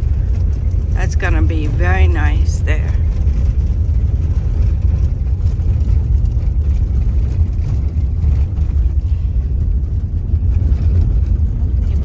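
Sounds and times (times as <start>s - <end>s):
car driving heard from inside: 0.0s - 12.0s.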